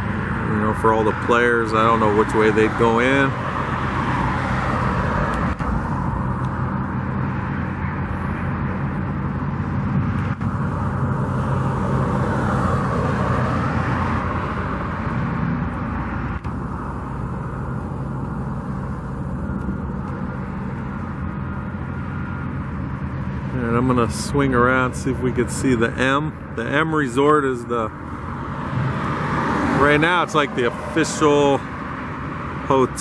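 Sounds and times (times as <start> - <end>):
low engine rumble: 0.0 - 33.0.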